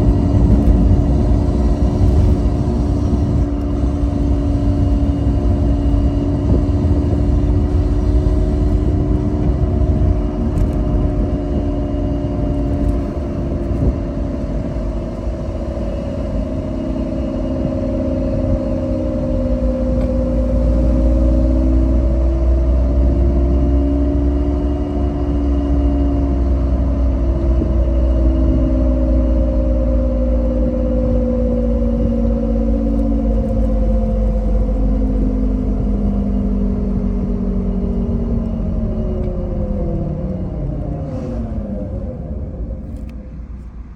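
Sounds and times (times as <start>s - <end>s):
differential whine: 0.0s - 43.9s
engine and road rumble: 0.0s - 43.9s.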